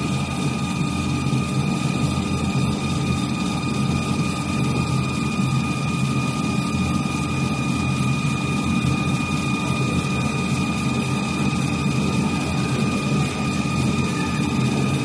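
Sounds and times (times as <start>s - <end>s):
high machine whine: 0.0s - 15.0s.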